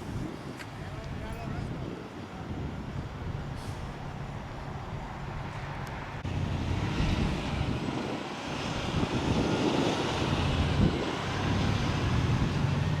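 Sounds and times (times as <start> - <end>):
engine rumble with hiss: 0.0 - 13.0.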